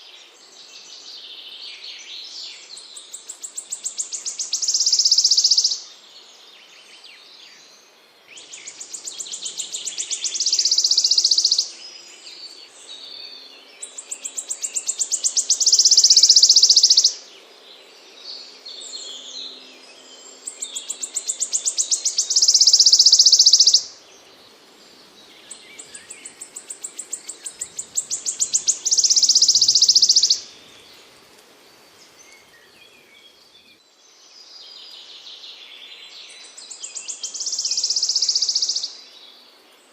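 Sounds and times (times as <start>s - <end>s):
soft bird chirps: 0.0s - 5.9s, 8.4s - 17.2s, 18.2s - 31.2s, 32.0s - 39.9s
songbird trilling song: 0.0s - 31.1s, 32.0s - 39.9s.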